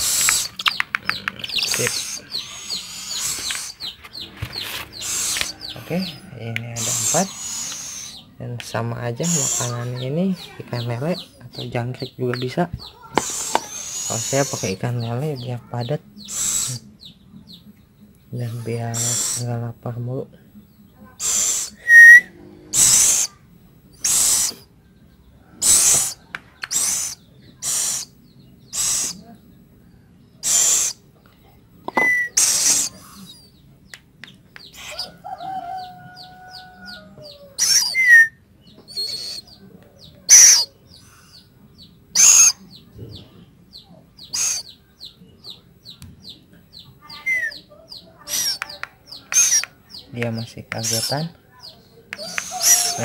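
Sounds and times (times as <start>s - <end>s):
owl chicks hissing calls: 0.0s - 11.4s, 12.8s - 15.3s, 16.2s - 17.6s, 18.4s - 19.6s, 21.0s - 24.8s, 25.5s - 29.3s, 30.4s - 31.1s, 31.9s - 33.6s, 34.5s - 53.0s
high chirps: 0.0s - 19.7s, 20.5s - 29.3s, 30.4s - 53.0s.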